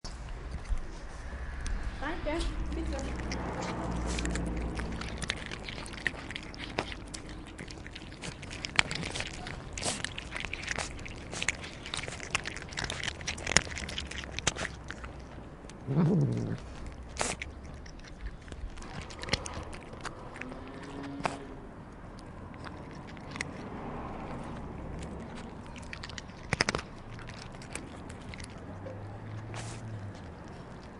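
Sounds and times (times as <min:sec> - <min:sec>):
cats chewing crunchy food: 0:00.1 - 0:30.9.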